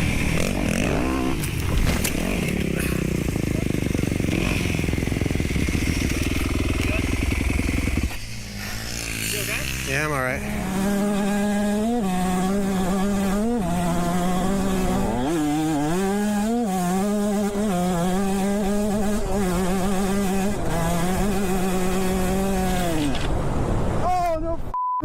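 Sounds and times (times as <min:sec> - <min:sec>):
dirt bike engine revving: 0:00.0 - 0:23.2.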